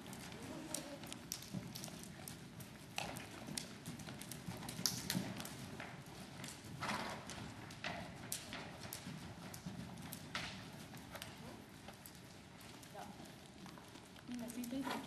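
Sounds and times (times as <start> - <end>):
horse hoofbeats: 0.0 - 15.0.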